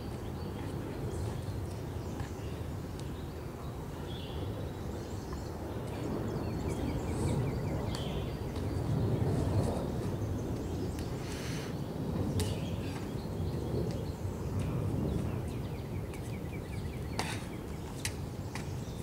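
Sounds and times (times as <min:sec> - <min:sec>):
birds chirping: 0:00.0 - 0:19.0
wind rumble on microphone: 0:00.0 - 0:19.0.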